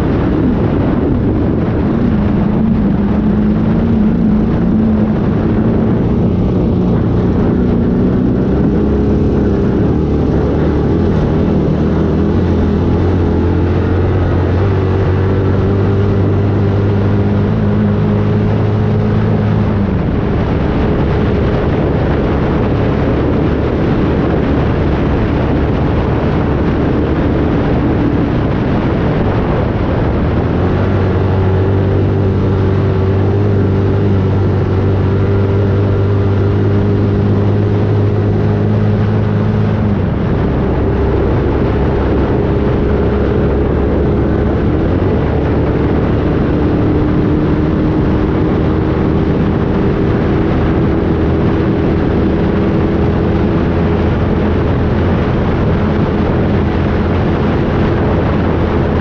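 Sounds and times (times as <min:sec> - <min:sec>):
loud rushing noise: 0:00.0 - 0:59.0
motor engine humming: 0:00.0 - 0:59.0.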